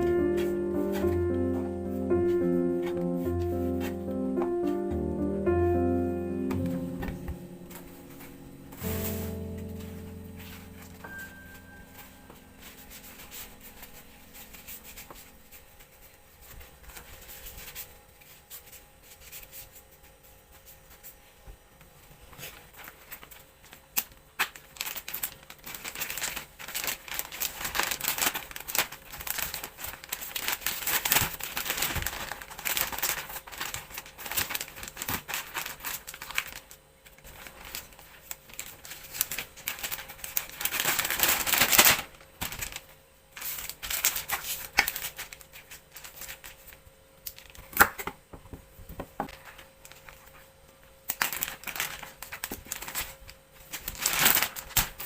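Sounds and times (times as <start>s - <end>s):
plastic packaging crinkling: 0.0s - 17.9s, 22.5s - 47.9s, 51.1s - 55.0s.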